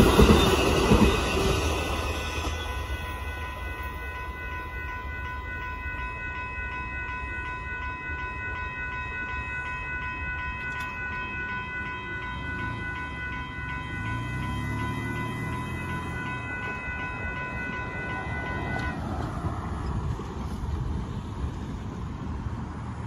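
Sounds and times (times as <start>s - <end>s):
crossing warning bell ringing: 0.0s - 21.9s
passing train rumble: 0.0s - 23.0s.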